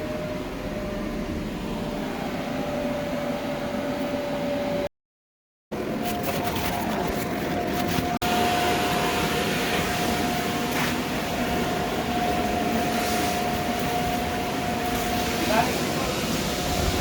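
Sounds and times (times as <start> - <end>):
blower hum: 0.0 - 4.9, 5.7 - 17.0.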